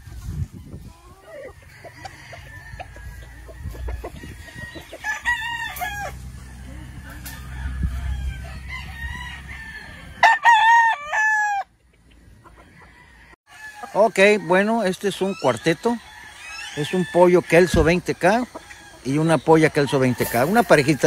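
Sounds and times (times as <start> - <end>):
rooster crowing: 1.3 - 11.7, 12.7 - 21.0.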